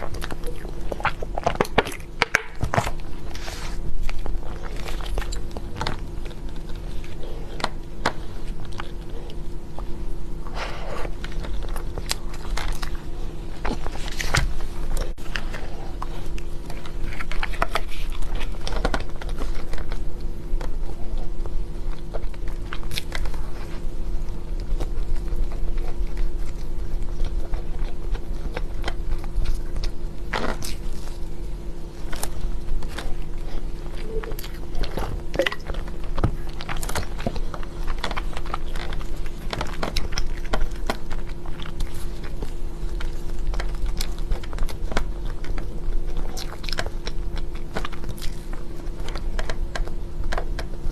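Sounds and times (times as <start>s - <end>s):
biting and chewing crunches: 0.0s - 50.9s
steady low hum: 0.0s - 50.9s.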